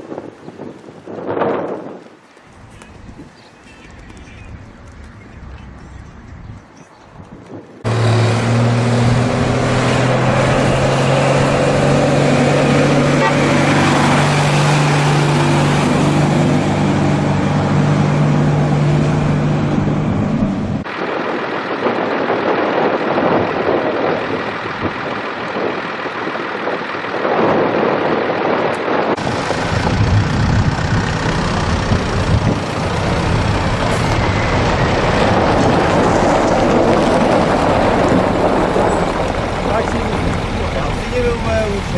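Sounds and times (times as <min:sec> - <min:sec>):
outdoor noise: 0:00.0 - 0:41.9
truck driving on dirt track: 0:03.8 - 0:41.9
fire truck engine hum: 0:03.9 - 0:41.9.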